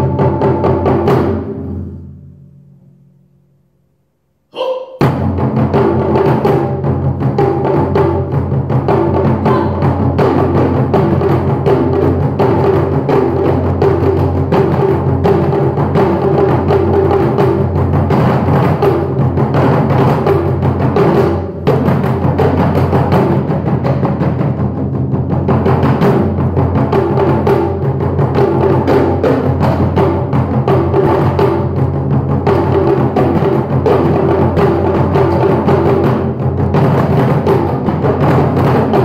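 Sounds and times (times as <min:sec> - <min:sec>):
fast drumming on snare and drums: 0:05.0 - 0:39.0.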